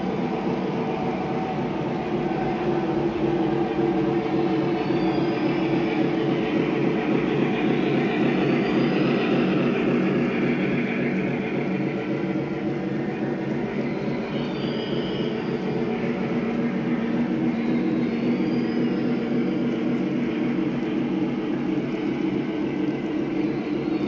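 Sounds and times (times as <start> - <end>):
model train rumbling: 0.0 - 24.0.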